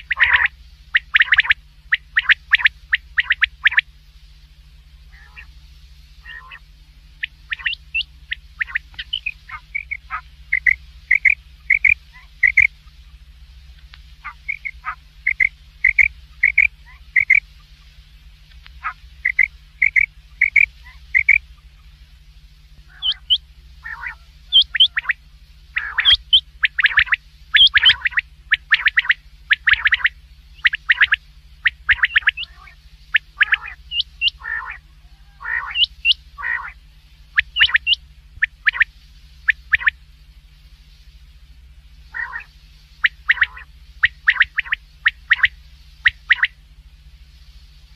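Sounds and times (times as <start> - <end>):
quail calling: 0.0 - 3.9, 4.8 - 5.6, 6.2 - 13.3, 14.2 - 22.0, 22.8 - 40.0, 42.0 - 46.6
steady low hum: 0.0 - 47.9.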